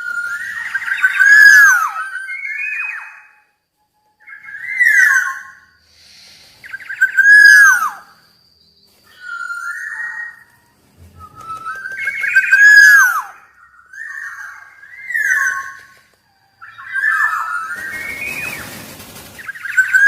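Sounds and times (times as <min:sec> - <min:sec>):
oriole singing whistled phrases: 0:00.0 - 0:03.4, 0:04.1 - 0:08.3, 0:09.1 - 0:16.0, 0:16.6 - 0:20.0.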